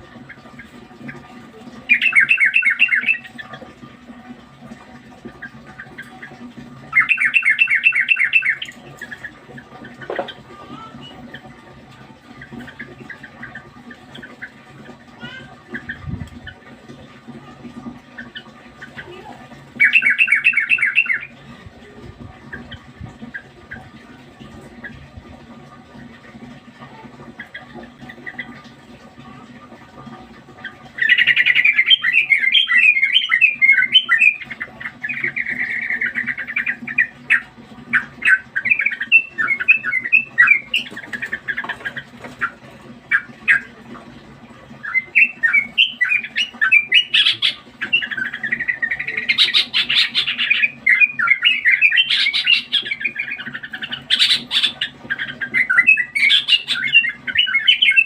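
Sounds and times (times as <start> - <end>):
bird singing fast warbling notes: 0.0 - 3.6, 5.4 - 16.7, 17.8 - 25.0, 30.6 - 43.8, 44.7 - 58.0.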